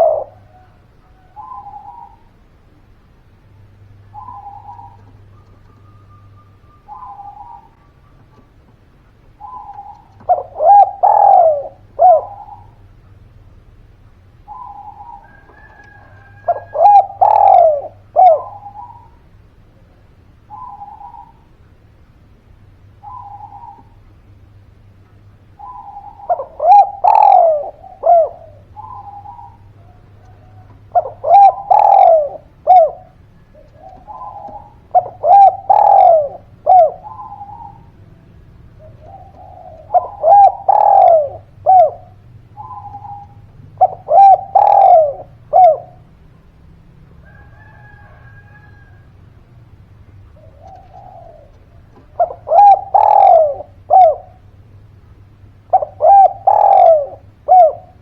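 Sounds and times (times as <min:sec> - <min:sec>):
dove cooing: 0:00.0 - 0:13.3, 0:14.4 - 0:21.6, 0:22.8 - 0:24.4, 0:25.4 - 0:58.0
faint low hum: 0:00.0 - 0:58.0.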